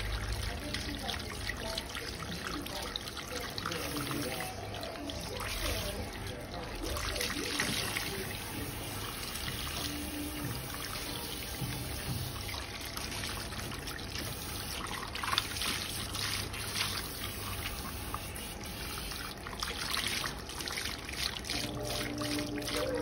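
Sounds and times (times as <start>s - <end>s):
water spraying into basin: 0.0s - 23.0s.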